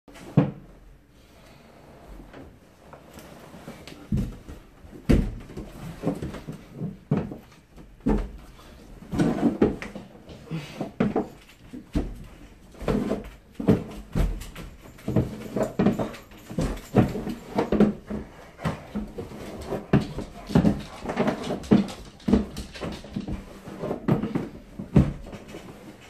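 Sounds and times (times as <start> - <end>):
footsteps on wooden stairs: 4.0 - 26.0.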